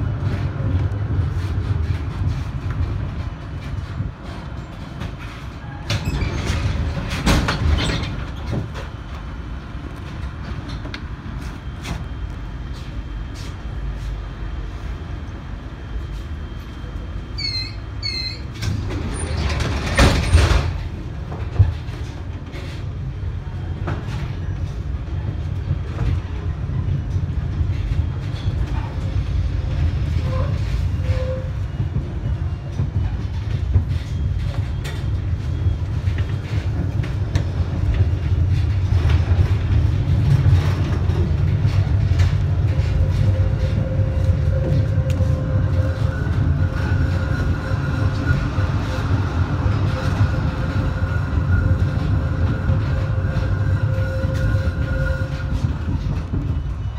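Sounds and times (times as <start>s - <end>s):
tram rumbling: 0.0s - 56.9s.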